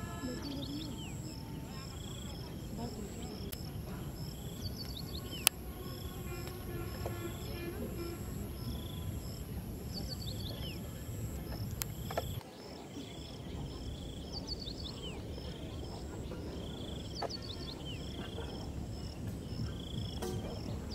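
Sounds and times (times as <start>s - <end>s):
birds calling: 0.0s - 20.9s
insects chirping: 0.0s - 20.9s.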